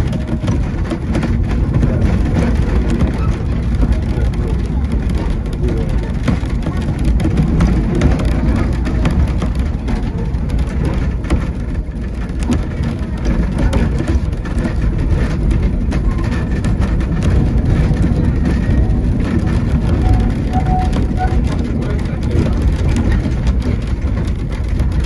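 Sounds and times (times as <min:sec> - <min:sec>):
train rumble: 0:00.0 - 0:25.0
wheels clattering on rails: 0:00.0 - 0:25.0.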